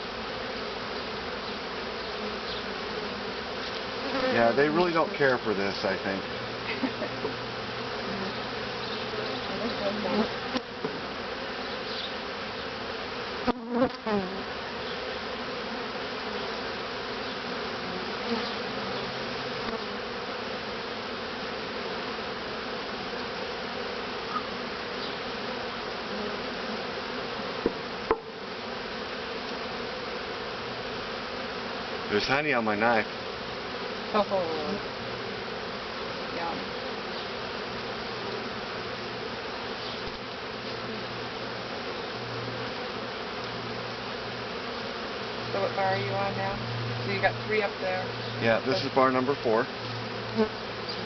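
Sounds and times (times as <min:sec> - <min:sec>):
bees buzzing: 0:00.0 - 0:51.0.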